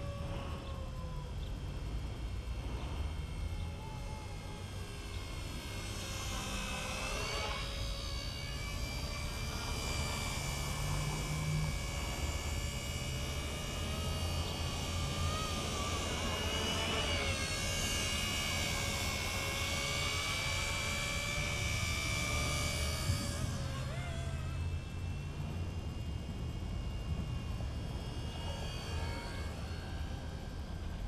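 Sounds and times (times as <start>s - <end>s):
model helicopter motor whine: 0.0s - 31.0s.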